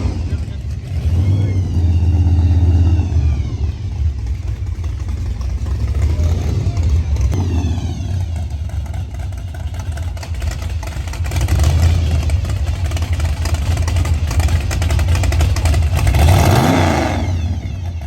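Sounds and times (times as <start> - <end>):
loud car engine rumbling: 0.0 - 18.0.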